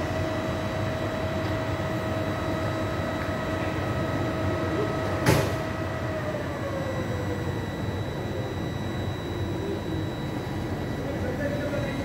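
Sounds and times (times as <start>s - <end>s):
faint steady whines: 0.0s - 12.0s.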